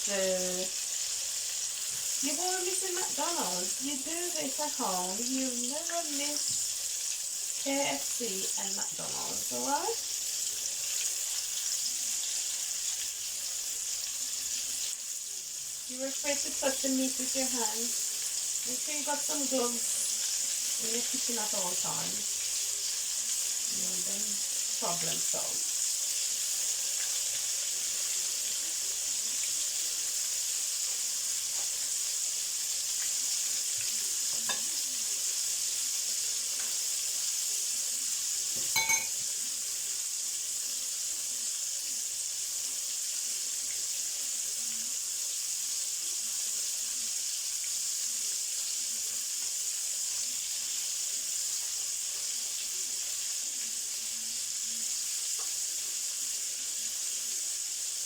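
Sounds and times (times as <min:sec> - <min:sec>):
chicken frying in hot oil: 0:00.0 - 0:58.0.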